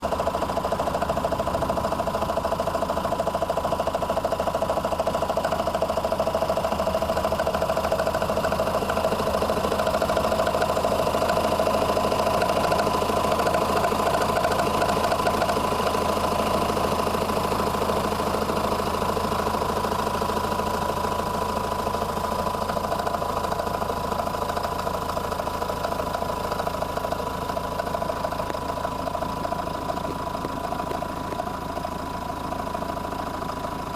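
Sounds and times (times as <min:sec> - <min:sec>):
diesel engine idling: 0:00.0 - 0:33.9
engine rattling: 0:00.0 - 0:33.9.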